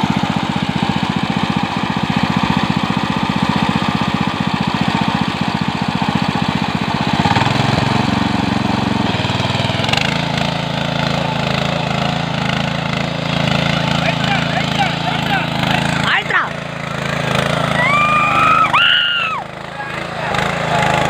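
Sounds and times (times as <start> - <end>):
power tiller engine running: 0.0 - 21.0.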